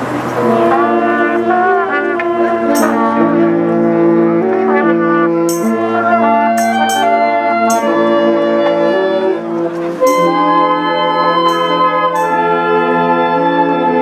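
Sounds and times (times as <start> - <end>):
brass ensemble sustained chords: 0.0 - 14.0.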